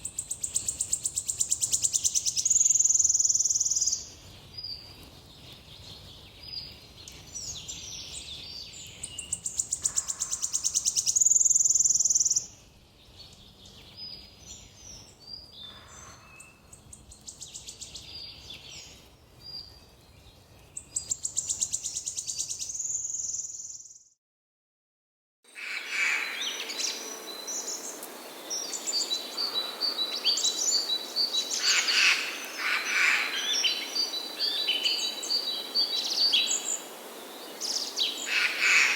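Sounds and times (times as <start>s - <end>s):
songbirds calling and singing: 0.0s - 24.0s, 25.5s - 38.9s.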